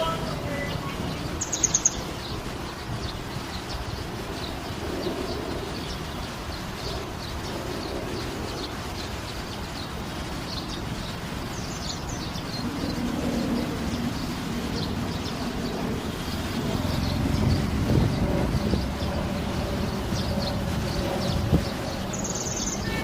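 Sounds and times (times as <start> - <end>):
low background rumble: 0.0 - 23.0
small birds chirping: 0.0 - 23.0.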